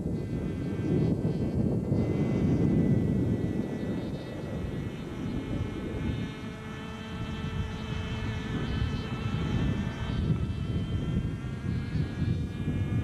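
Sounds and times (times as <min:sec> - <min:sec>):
model helicopter engine whine: 0:00.0 - 0:13.0
rotor and wind rushing: 0:00.0 - 0:13.0.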